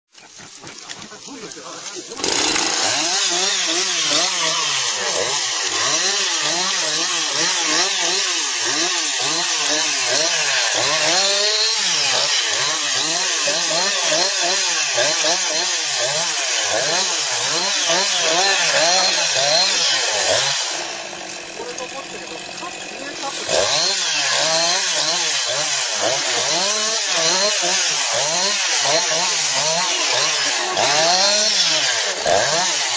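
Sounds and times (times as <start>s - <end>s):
chainsaw cutting branches: 0.2s - 32.9s.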